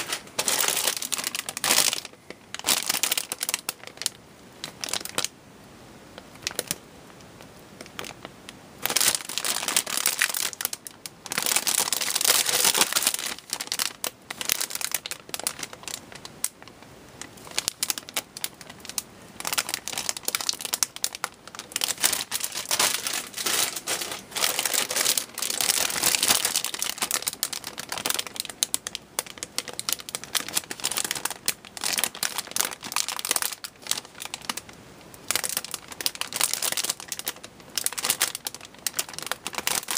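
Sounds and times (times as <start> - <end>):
plastic bags crinkling: 0.0 - 5.3, 6.2 - 6.8, 7.8 - 39.9.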